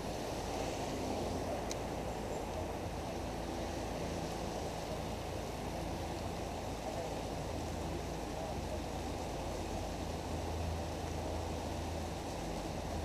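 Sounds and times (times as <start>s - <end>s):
creek water running: 0.0s - 13.0s
faint steady hum: 0.0s - 13.0s.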